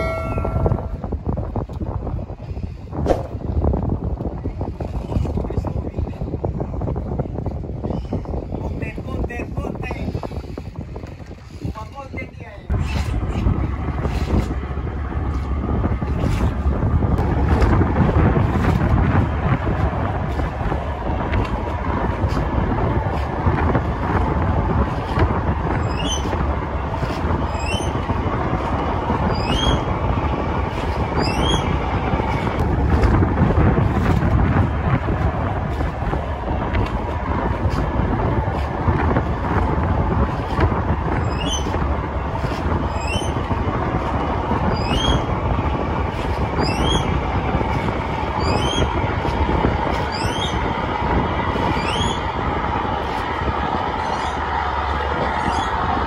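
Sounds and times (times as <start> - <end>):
boat engine rumble: 0.0 - 56.0
wind buffeting microphone: 0.0 - 56.0.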